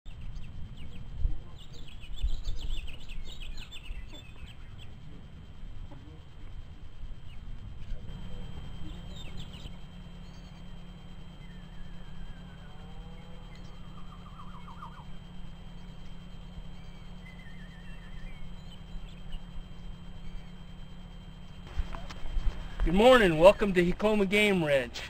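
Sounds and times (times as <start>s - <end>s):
small birds chirping: 0.1s - 24.8s
steady low rumble: 0.1s - 25.0s.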